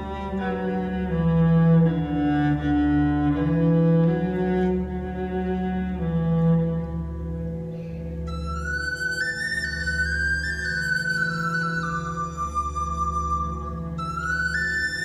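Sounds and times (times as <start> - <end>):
string band playing slow melody: 0.0 - 15.0.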